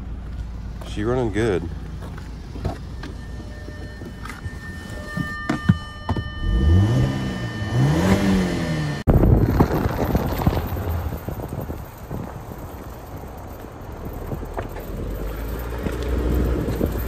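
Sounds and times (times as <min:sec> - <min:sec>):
car engine idling and revving: 0:00.0 - 0:17.0
wind and road noise: 0:00.0 - 0:17.0.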